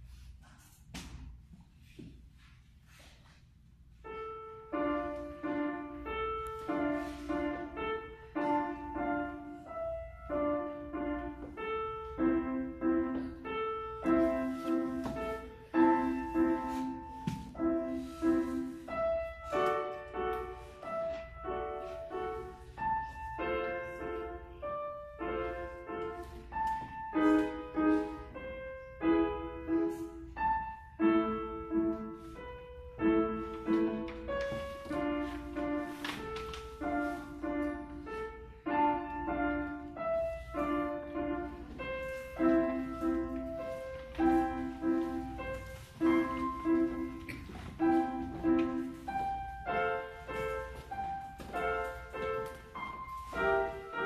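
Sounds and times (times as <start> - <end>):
grand piano playing chords: 3.6 - 54.0.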